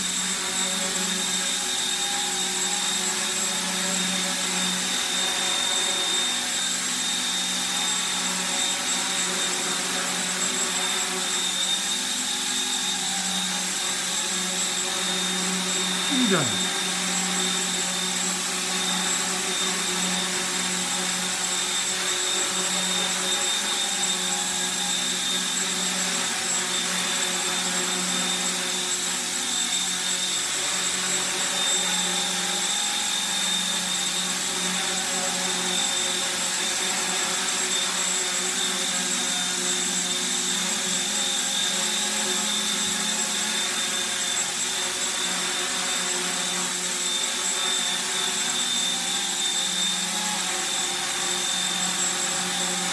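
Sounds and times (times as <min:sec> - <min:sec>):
electric motor whine: 0:00.0 - 0:52.9.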